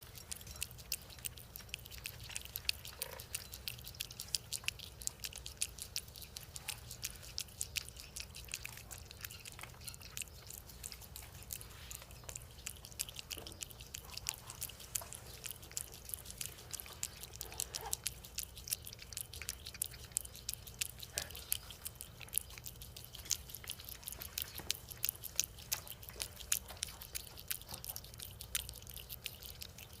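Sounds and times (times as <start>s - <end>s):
cats chewing wet food: 0.0s - 30.0s.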